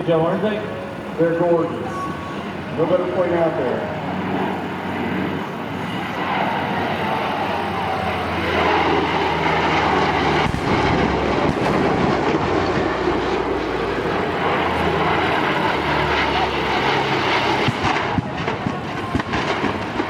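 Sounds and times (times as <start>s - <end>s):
propeller plane engines passing: 0.0s - 20.0s.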